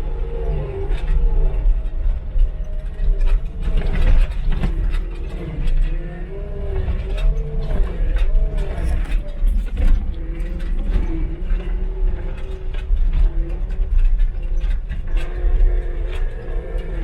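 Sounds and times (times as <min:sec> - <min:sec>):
loader clanks and creaks: 0:00.0 - 0:17.0.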